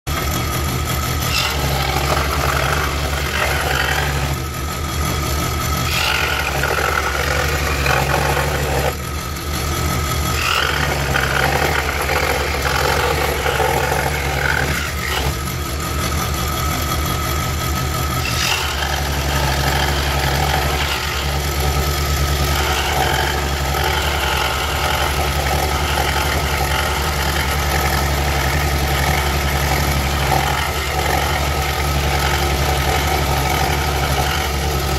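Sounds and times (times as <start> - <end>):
scroll saw cutting wood: 0.1 - 34.9.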